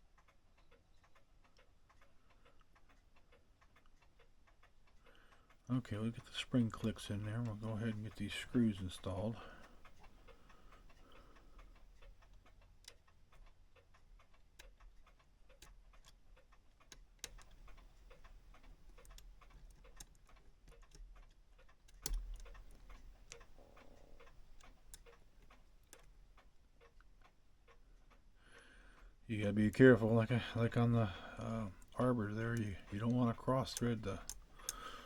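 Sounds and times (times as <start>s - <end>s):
clock ticking: 0.0s - 35.0s.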